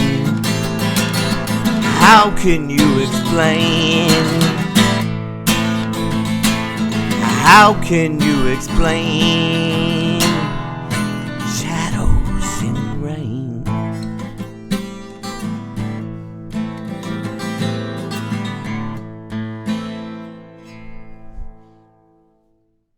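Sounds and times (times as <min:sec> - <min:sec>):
acoustic guitar strumming: 0:00.0 - 0:22.6.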